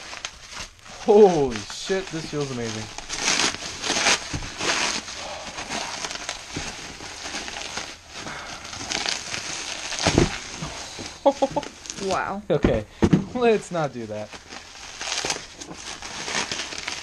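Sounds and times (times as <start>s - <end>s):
plastic wrap crinkling: 0.0s - 12.3s, 13.3s - 17.0s.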